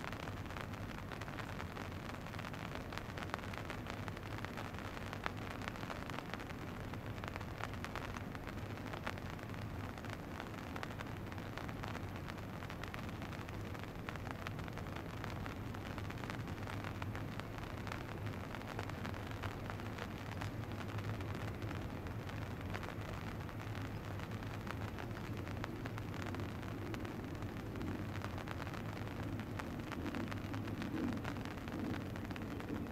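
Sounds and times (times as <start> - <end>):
dense fine crackle: 0.0 - 32.9.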